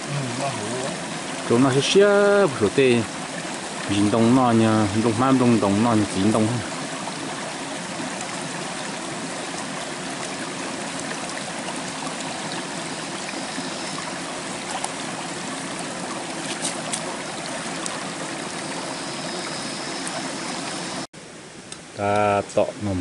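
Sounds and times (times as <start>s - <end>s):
stream running over stones: 0.0s - 21.1s.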